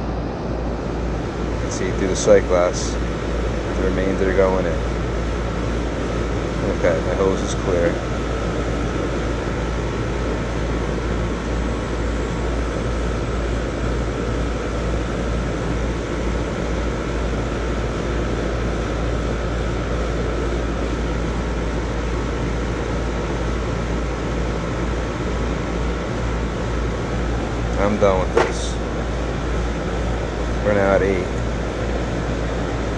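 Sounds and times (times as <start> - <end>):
air conditioner unit humming: 0.0 - 32.9.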